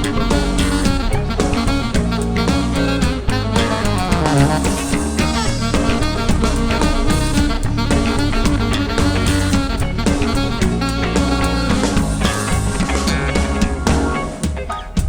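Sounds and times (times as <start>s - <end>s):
band music: 0.0s - 15.0s
drum kit beat: 0.0s - 15.0s.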